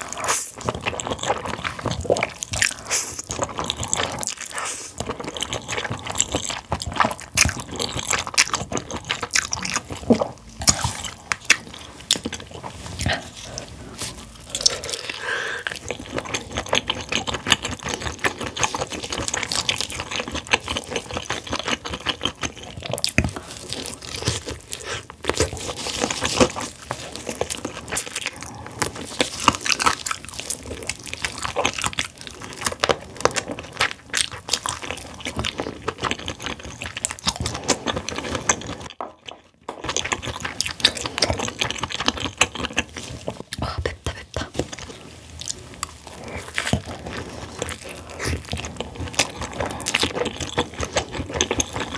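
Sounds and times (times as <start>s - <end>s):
wet chewing: 0.0s - 51.9s.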